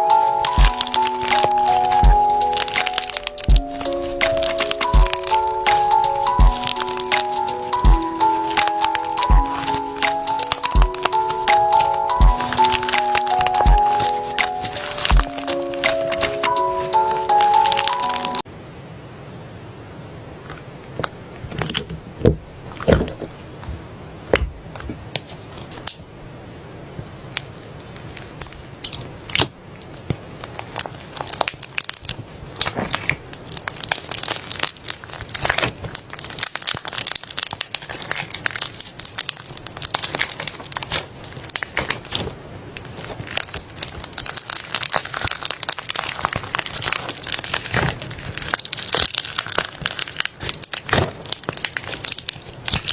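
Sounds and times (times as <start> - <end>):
slime clicking and crackling: 0.0 - 18.4, 27.3 - 52.9.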